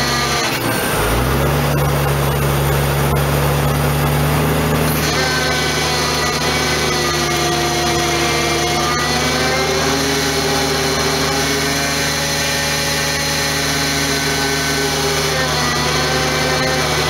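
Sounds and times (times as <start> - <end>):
diesel engine running: 0.0 - 17.0
hydraulic winch whine: 0.0 - 17.0.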